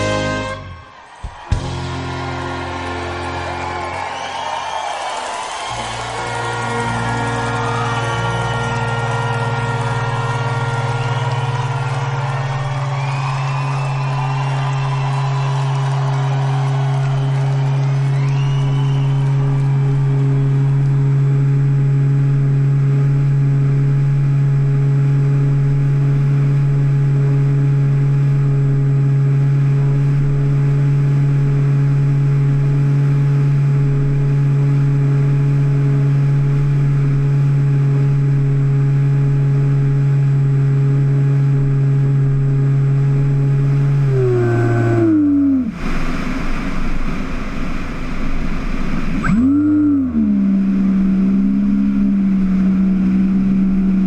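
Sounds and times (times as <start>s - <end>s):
electric propeller plane droning: 1.5s - 54.0s.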